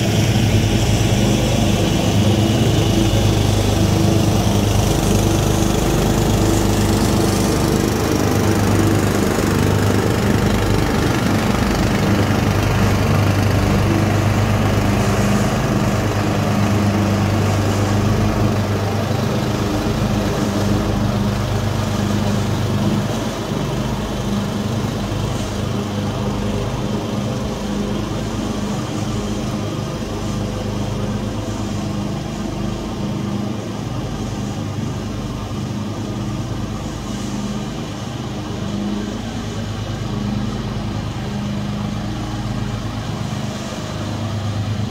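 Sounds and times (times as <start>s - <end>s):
mower engines droning: 0.0s - 44.9s.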